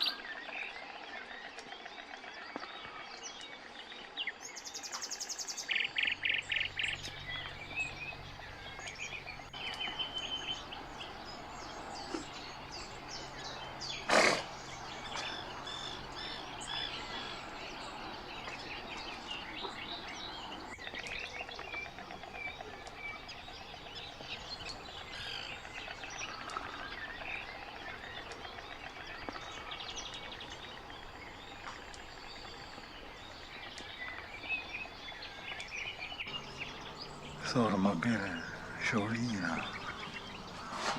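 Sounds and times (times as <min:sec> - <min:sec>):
many birds chirping and singing: 0:00.0 - 0:40.9.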